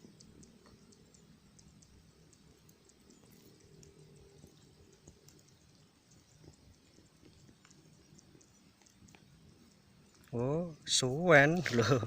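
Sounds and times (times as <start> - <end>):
faint ticks: 0.0 - 12.0.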